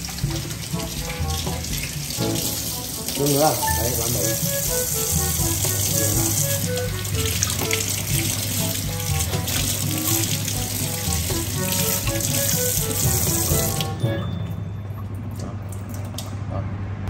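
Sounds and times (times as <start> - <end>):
faucet water running into sink: 0.0 - 14.2
light background music: 0.0 - 15.3.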